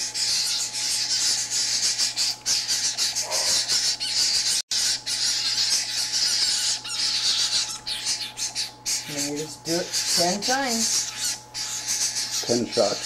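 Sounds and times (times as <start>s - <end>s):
toucan chicks begging: 0.0s - 13.0s.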